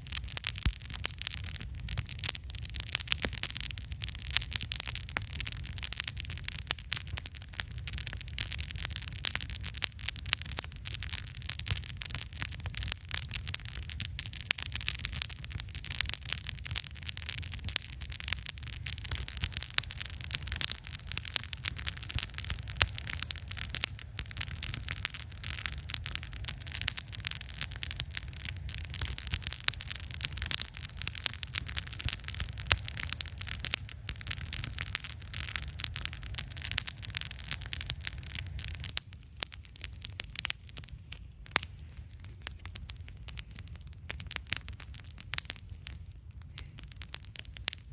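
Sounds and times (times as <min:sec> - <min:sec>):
campfire crackling: 0:00.0 - 0:47.9
low fire rumble: 0:00.0 - 0:47.9.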